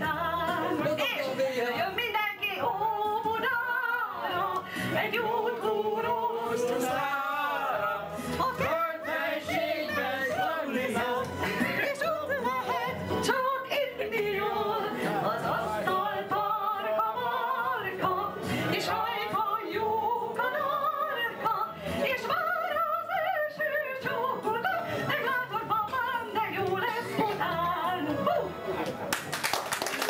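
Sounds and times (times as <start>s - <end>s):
woman singing into microphone: 0.0s - 28.5s.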